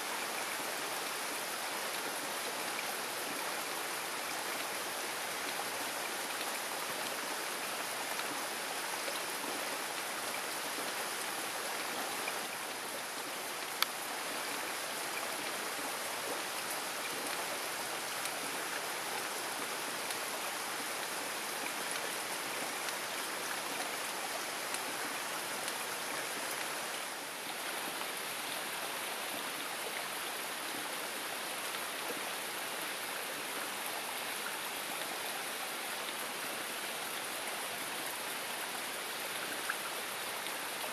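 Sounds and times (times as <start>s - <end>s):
heavy rain on forest canopy: 0.0s - 40.9s.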